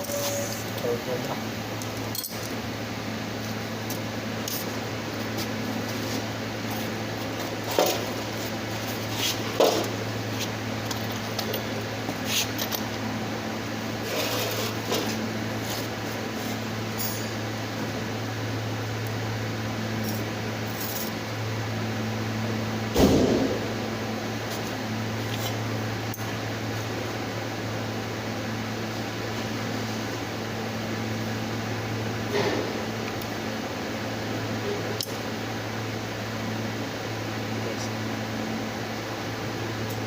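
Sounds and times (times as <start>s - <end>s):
machine electric hum: 0.0s - 40.0s.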